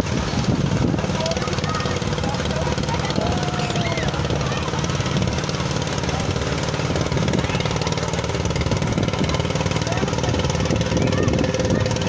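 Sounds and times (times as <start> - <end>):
motor engine running: 0.0 - 12.0.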